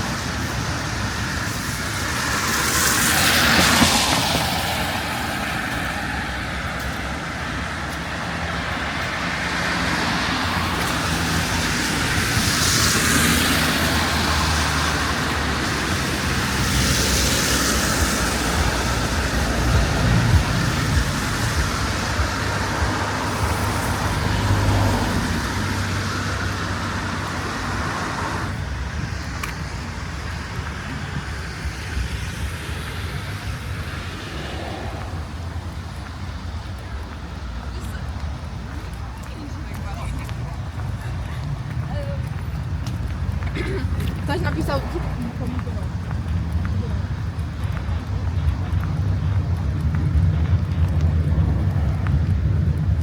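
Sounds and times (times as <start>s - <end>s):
cars passing with tyre hiss: 0.0s - 53.0s.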